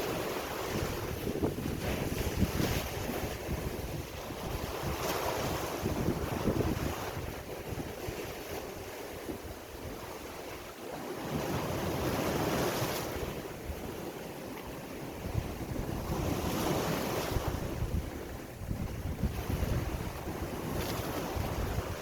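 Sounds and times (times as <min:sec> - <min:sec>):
wind rumbling on microphone: 0:00.0 - 0:14.1, 0:14.7 - 0:22.0
sea waves breaking: 0:00.0 - 0:22.0.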